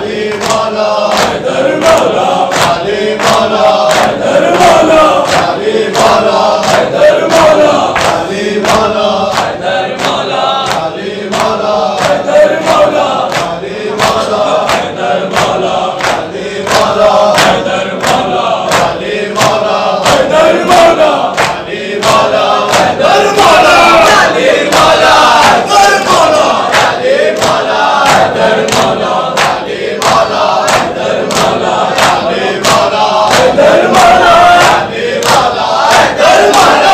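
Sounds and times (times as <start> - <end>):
men chanting in unison: 0.0 - 36.9.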